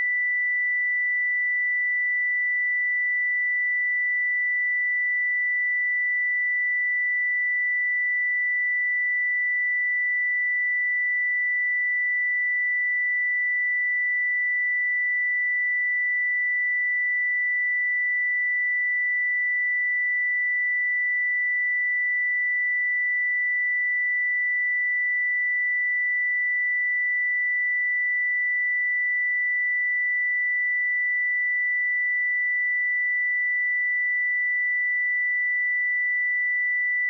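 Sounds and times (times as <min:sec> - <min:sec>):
high-pitched sine-wave test tone: 0:00.0 - 0:37.0.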